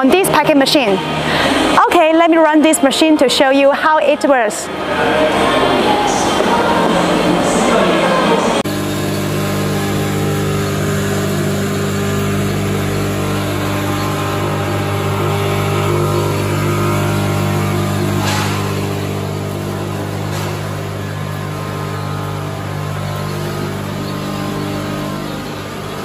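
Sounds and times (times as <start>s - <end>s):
packing machinery humming: 4.6s - 26.0s.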